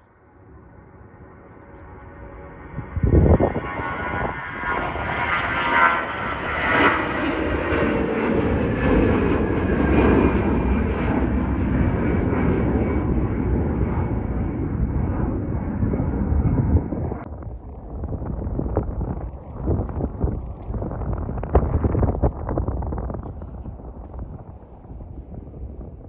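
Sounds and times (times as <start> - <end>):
airliner engine rush: 0.0 - 26.0.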